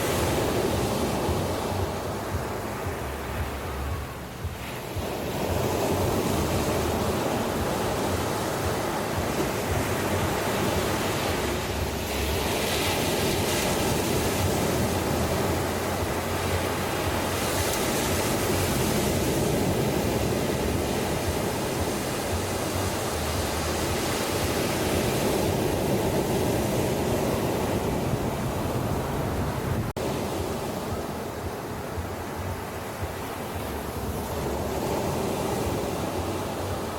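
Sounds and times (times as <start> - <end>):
ocean waves rushing: 0.0 - 36.9
wind rumble on microphone: 0.0 - 36.9.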